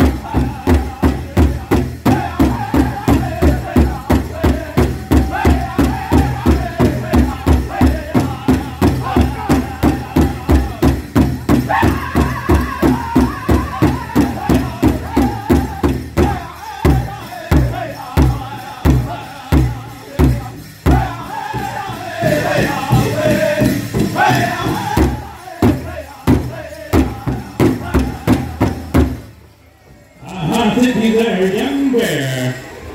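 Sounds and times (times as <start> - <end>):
large bass drum beating: 0.0 - 29.3
voices singing in unison: 0.0 - 29.3.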